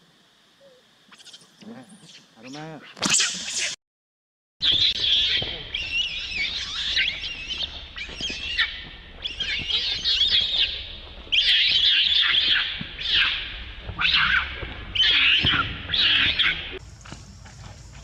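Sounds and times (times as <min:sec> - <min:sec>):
baby monkey screaming: 0:01.1 - 0:03.8, 0:04.6 - 0:16.8.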